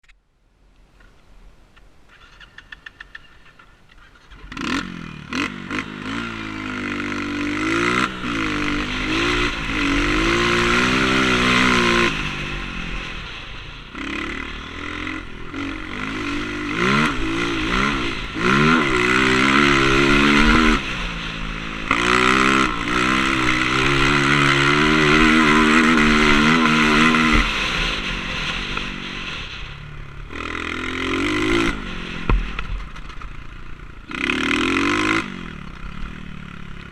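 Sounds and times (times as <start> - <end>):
motocross bike engine revving: 4.3 - 36.9.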